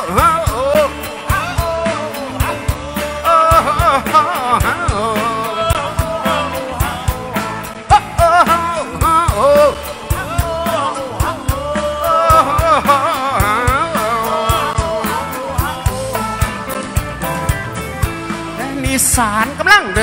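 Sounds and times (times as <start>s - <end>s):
live band with singing: 0.0s - 20.0s
steady drum beat: 0.0s - 20.0s.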